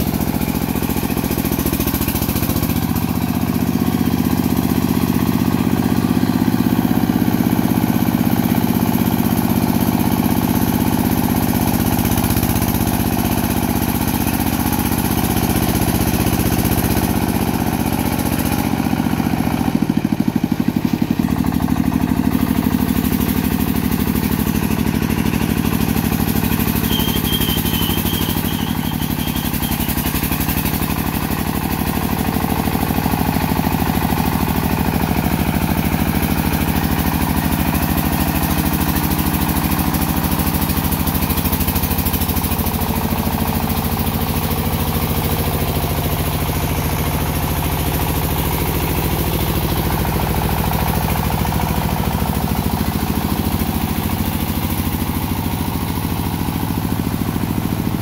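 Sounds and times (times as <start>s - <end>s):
diesel tractor engine chugging: 0.0s - 58.0s.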